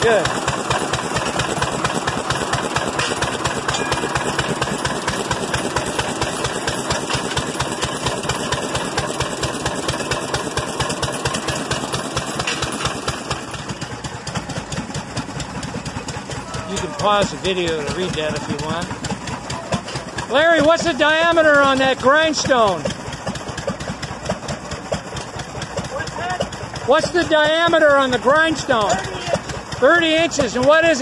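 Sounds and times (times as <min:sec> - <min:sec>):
stationary gas engine running: 0:00.0 - 0:31.0.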